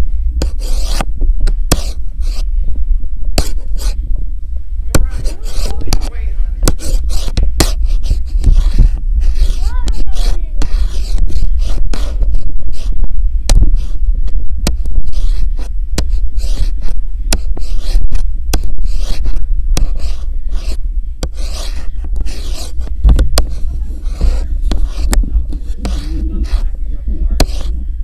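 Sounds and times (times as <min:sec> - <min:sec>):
low rumble: 0:00.0 - 0:00.5, 0:01.1 - 0:09.6, 0:10.4 - 0:17.4, 0:18.0 - 0:28.0
phone rubbing against clothing: 0:00.0 - 0:02.5, 0:03.4 - 0:04.0, 0:04.9 - 0:28.0.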